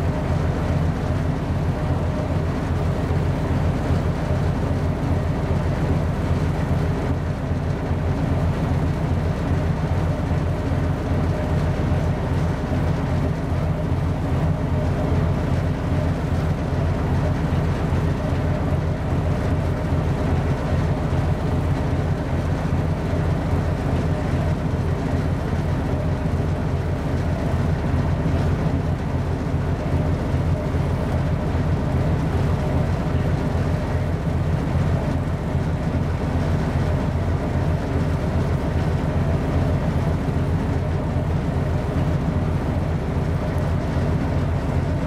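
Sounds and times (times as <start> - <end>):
ship diesel engine droning: 0.0 - 45.0.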